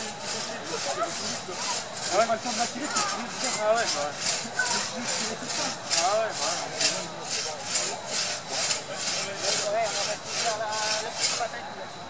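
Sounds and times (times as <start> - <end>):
crosscut saw rasping through wood: 0.0 - 11.6.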